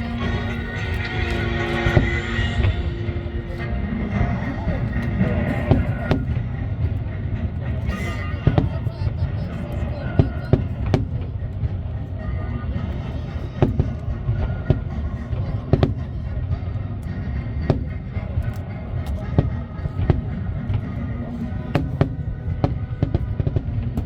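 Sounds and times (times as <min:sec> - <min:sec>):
low rumble: 0:00.0 - 0:24.0
music playing: 0:00.0 - 0:24.0.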